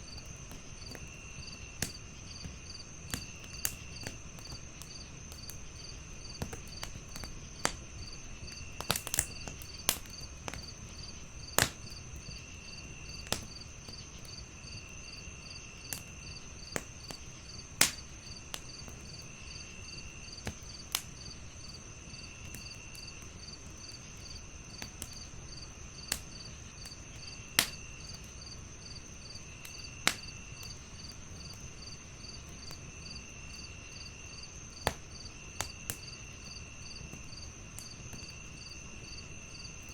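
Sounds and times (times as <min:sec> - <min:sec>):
crickets trilling: 0:00.0 - 0:39.9
regular cricket chirp: 0:00.0 - 0:39.9
wood fire crackling: 0:00.0 - 0:39.9
sharp pops from fire: 0:00.1 - 0:15.1, 0:15.8 - 0:38.8.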